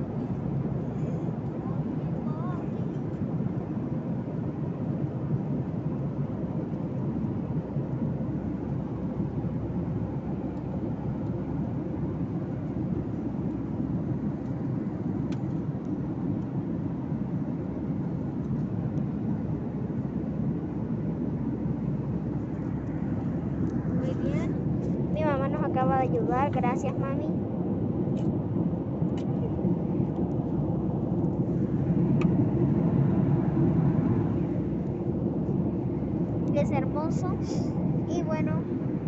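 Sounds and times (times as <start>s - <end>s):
airliner cabin engine noise: 0.0s - 39.0s.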